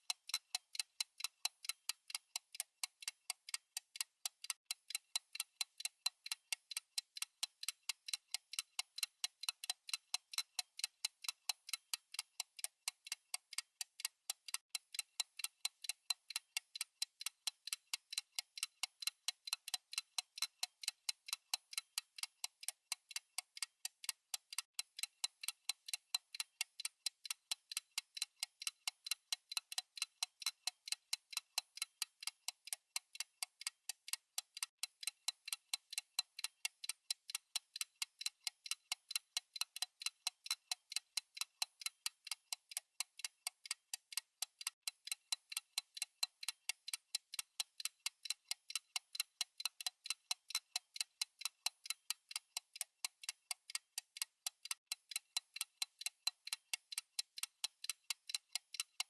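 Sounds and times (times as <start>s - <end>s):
fast clock ticking: 0.0s - 59.0s.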